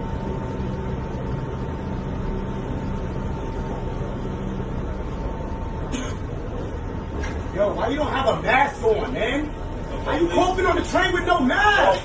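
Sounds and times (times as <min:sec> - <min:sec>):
high whine: 0:00.0 - 0:12.0
subway train low rumble: 0:00.0 - 0:12.0.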